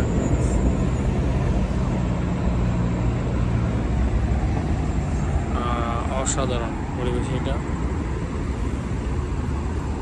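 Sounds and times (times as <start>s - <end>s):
city traffic rumble: 0.0s - 10.0s.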